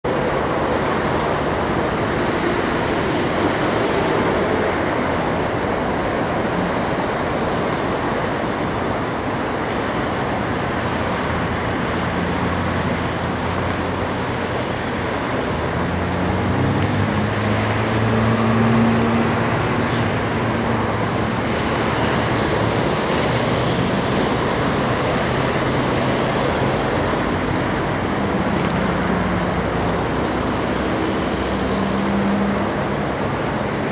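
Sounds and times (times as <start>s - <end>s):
heavy vehicle engine hum: 0.0s - 33.9s
highway traffic rushing: 0.0s - 33.9s.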